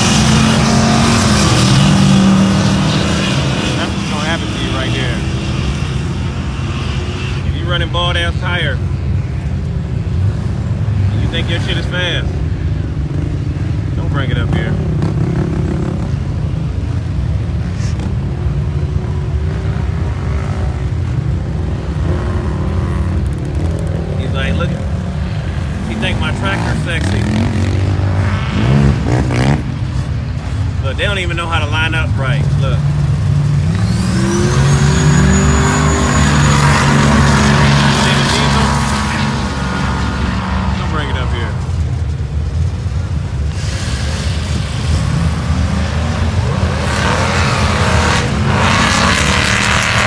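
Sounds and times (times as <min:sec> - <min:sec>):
vehicle engines rumbling: 0:00.0 - 0:50.0.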